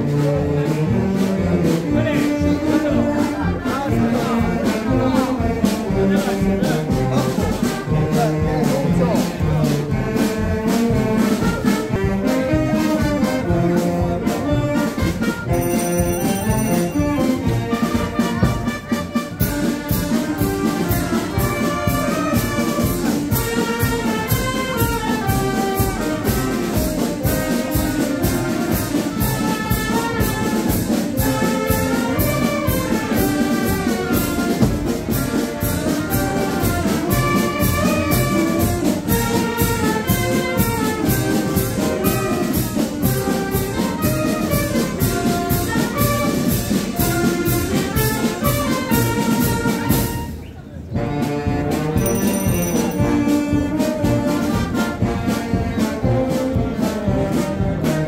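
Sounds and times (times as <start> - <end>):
brass band playing a march: 0.0 - 58.0.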